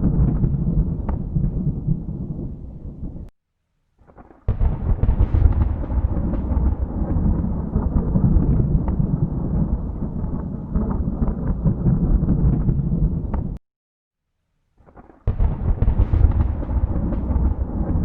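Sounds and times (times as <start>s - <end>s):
thunder crack and rumble: 0.0s - 3.3s, 4.1s - 13.6s, 14.9s - 18.0s.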